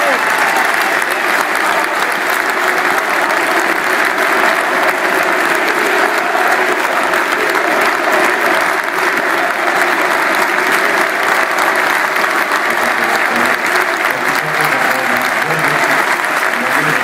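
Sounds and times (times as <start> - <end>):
stadium crowd noise: 0.0 - 17.0.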